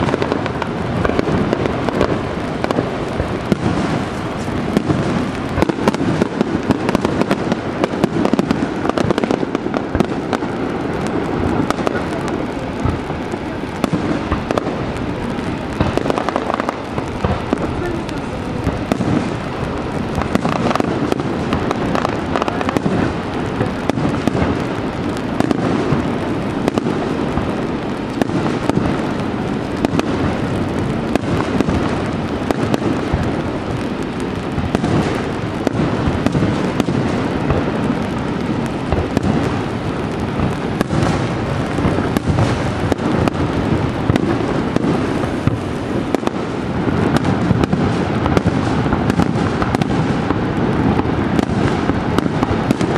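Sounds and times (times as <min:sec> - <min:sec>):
fireworks bursting and crackling: 0:00.0 - 0:52.9.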